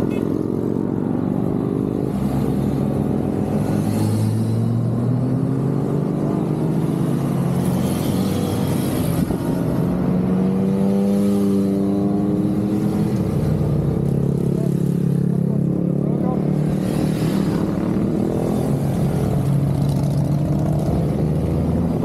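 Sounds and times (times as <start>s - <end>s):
motorcycles riding past: 0.0s - 22.0s.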